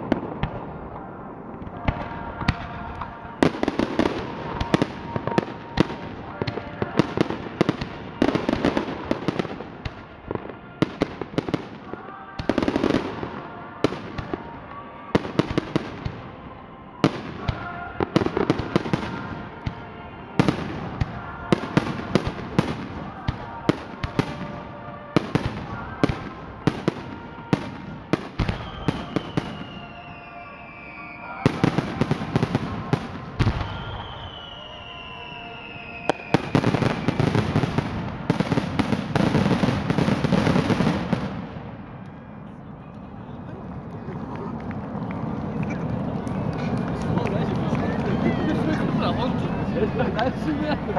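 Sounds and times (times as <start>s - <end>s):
fireworks crackling: 0.0s - 16.4s, 17.0s - 42.5s, 43.1s - 50.9s.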